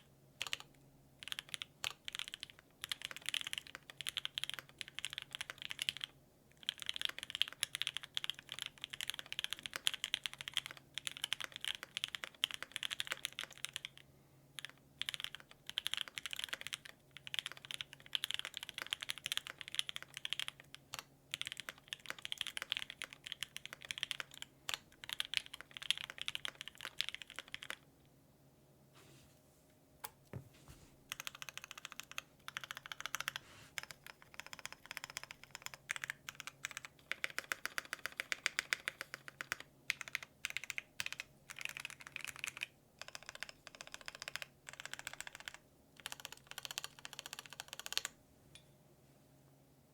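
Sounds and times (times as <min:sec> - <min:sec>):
mechanical keyboard typing: 0:00.4 - 0:14.0, 0:14.6 - 0:27.8, 0:31.1 - 0:48.2.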